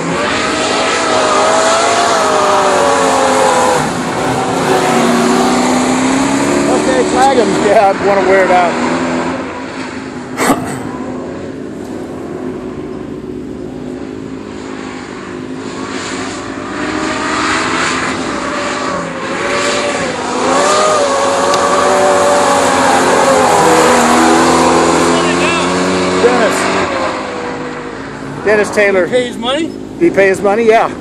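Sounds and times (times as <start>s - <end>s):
race car engine running hard: 0.0s - 31.0s.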